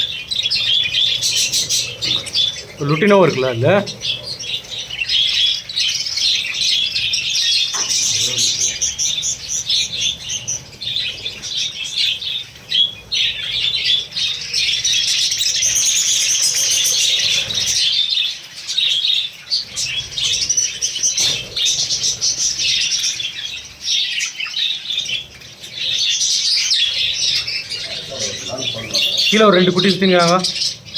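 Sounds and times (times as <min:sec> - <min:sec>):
flock of birds chattering: 0:00.0 - 0:30.9.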